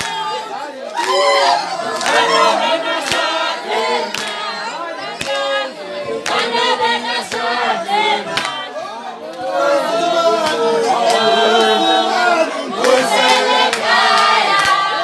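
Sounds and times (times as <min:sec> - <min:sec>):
crowd singing together: 0:00.0 - 0:15.0.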